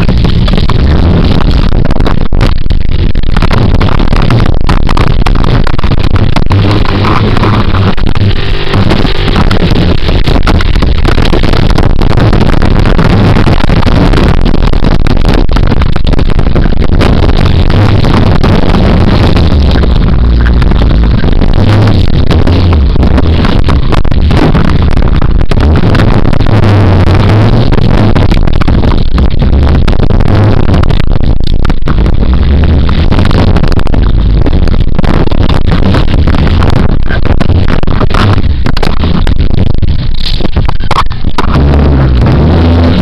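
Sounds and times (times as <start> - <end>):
off-road vehicle engine running: 0.0 - 43.0.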